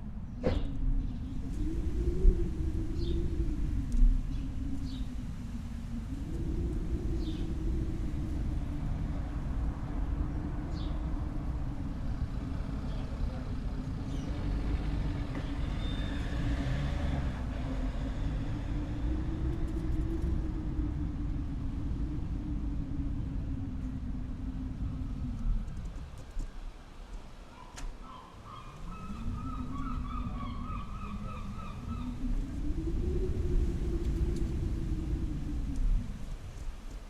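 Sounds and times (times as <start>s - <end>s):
low steady rumbling: 0.0s - 27.5s, 28.7s - 37.0s.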